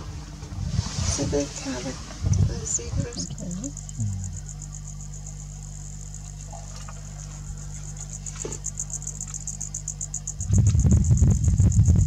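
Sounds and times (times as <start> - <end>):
insects chirring: 0.0 - 12.0
steady low hum: 0.0 - 12.0.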